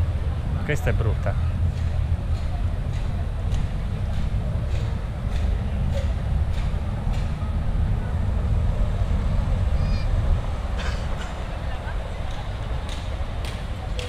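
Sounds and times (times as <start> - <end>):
low street rumble: 0.0 - 14.0.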